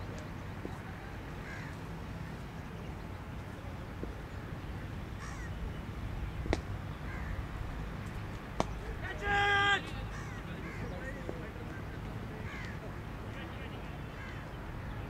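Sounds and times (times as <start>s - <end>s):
bird calls: 0.0s - 7.5s, 8.1s - 15.0s.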